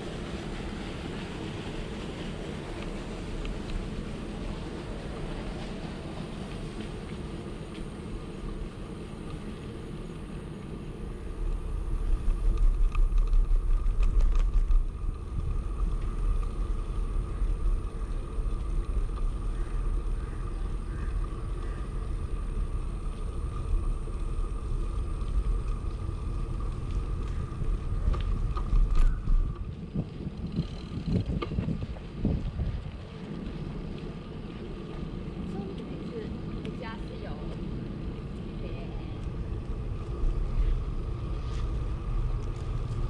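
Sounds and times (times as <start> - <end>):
bicycle road noise: 0.0 - 43.0
faint steady whine: 0.0 - 43.0
wind rumble on microphone: 0.0 - 43.0.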